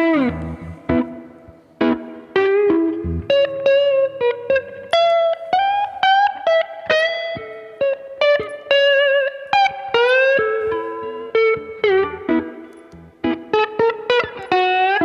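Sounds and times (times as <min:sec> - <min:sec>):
electric guitar lead melody: 0:00.0 - 0:15.0.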